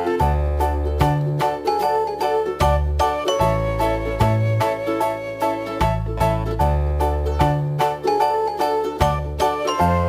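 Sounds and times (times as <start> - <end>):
light children's tune: 0.0 - 10.0.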